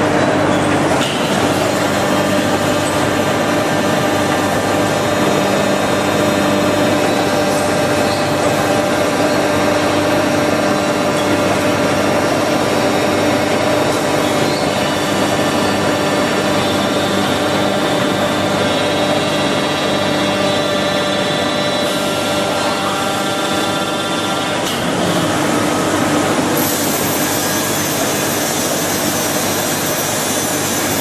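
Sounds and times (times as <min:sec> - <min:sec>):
saw machine humming: 0:00.0 - 0:31.0.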